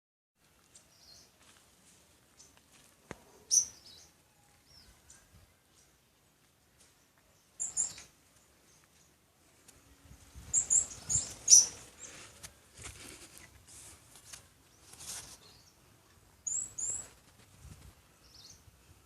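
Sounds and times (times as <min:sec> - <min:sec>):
small birds chirping: 0:00.5 - 0:19.0.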